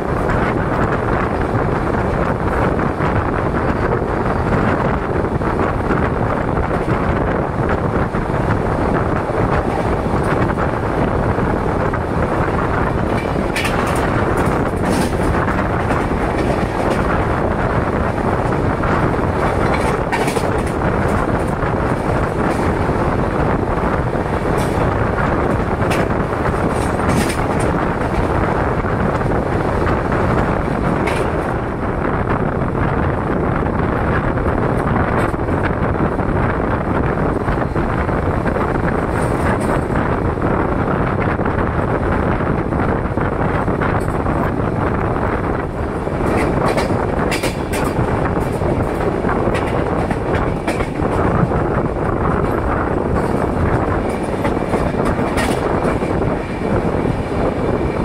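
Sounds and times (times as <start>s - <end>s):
passenger train running noise: 0.0s - 58.0s.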